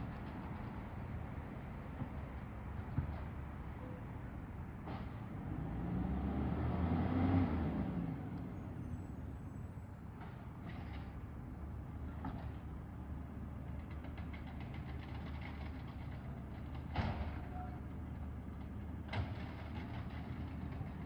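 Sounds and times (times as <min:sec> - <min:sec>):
garbage truck diesel engine: 0:00.0 - 0:21.0.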